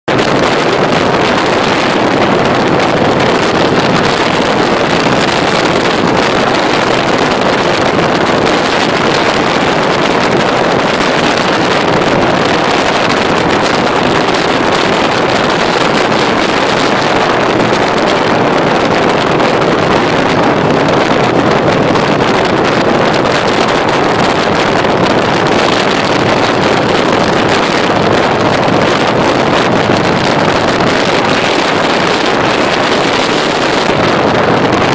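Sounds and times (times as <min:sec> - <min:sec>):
wind rushing over microphone: 0:00.0 - 0:34.9
motorcycle engine cruising: 0:00.1 - 0:34.9.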